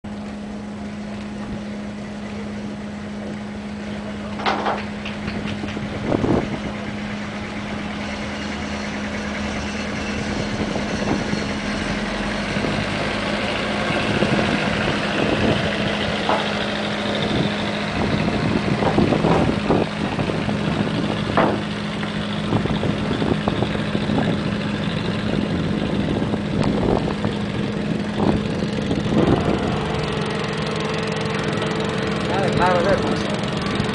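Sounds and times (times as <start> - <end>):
boat engine drone: 0.1 - 33.9.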